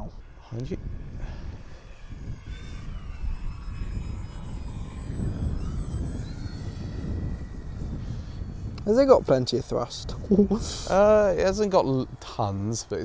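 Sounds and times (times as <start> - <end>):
low rumble: 0.0 - 12.2
model plane motor whine: 0.0 - 13.0.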